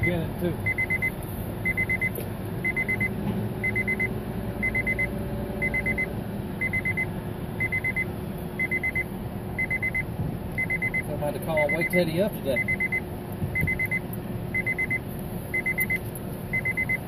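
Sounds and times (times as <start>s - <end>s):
high electronic beeps: 0.0s - 8.0s, 8.6s - 9.0s, 9.6s - 12.0s, 12.6s - 13.0s, 13.6s - 17.0s
low engine rumble: 0.0s - 17.0s.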